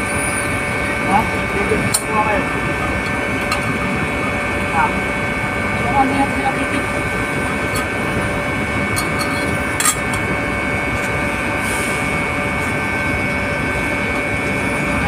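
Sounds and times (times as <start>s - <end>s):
high steady whining tones: 0.0s - 15.0s
machinery drone: 0.0s - 15.0s.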